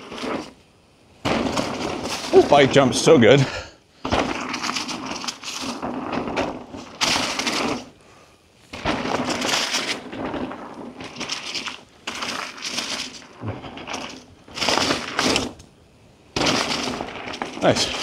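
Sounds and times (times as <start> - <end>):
bike rattling: 1.3 - 3.4, 4.0 - 8.0, 8.7 - 15.7, 16.4 - 18.0.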